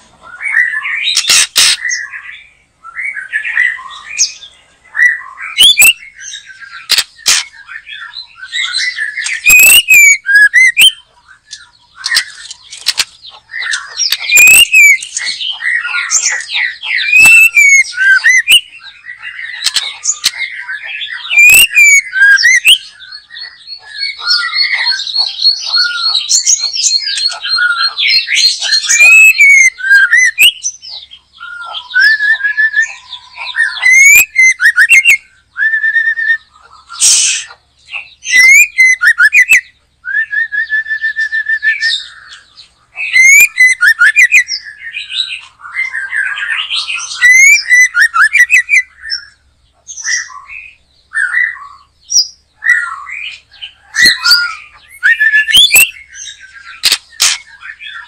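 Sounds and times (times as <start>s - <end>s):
bird singing whistled phrases: 0.3s - 58.0s.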